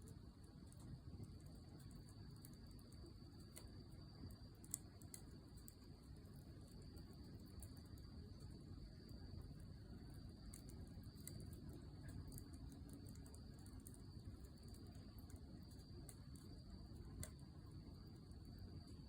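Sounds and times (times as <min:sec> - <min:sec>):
campfire crackling: 0:00.0 - 0:19.0
insect trill: 0:00.0 - 0:19.0.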